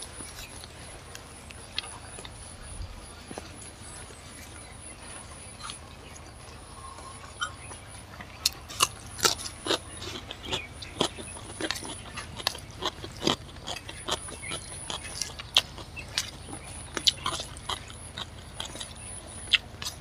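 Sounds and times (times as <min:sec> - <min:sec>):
crunching cucumber being chewed: 0:00.0 - 0:20.0.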